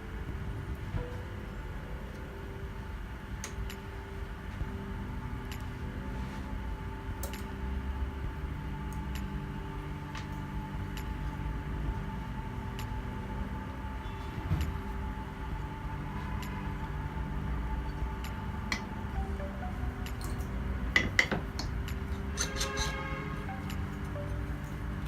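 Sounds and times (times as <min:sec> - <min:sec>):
low rumble: 0:00.0 - 0:22.4
machine hum with tones: 0:00.0 - 0:25.0.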